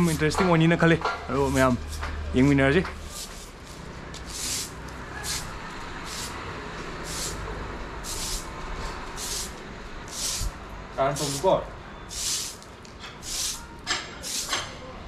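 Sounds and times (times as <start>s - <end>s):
broom sweeping concrete: 0.0s - 0.4s, 1.3s - 6.4s, 7.0s - 14.7s.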